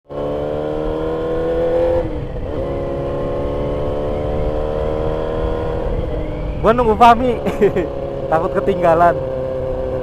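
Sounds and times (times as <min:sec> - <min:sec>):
motorcycle engine running: 0:00.1 - 0:10.0.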